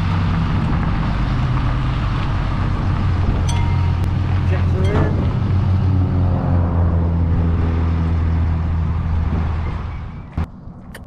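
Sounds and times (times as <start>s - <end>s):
road and wind noise: 0.0s - 11.0s
vehicle engine droning: 0.0s - 11.0s.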